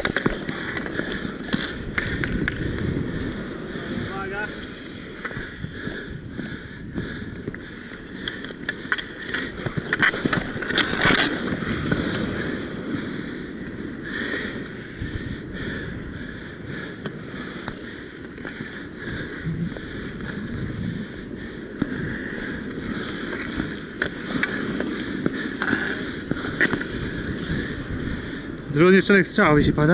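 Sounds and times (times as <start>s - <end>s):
skate wheels rolling and scraping: 0.0s - 29.9s.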